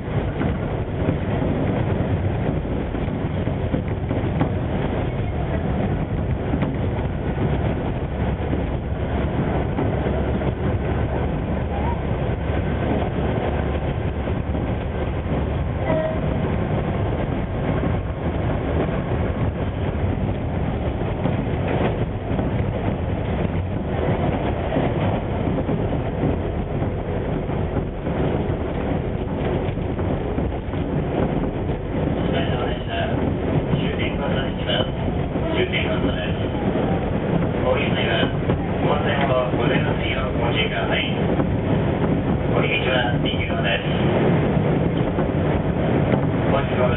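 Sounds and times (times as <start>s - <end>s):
diesel railcar engine: 0.0s - 46.9s
train wheels on rails: 0.0s - 46.9s.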